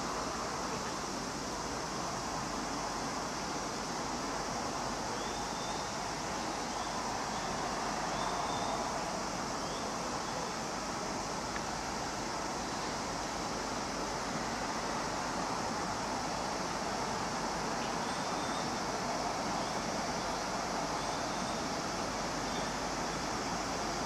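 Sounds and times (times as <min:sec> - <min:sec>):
distant rail-yard rumble and hiss: 0:00.0 - 0:24.0.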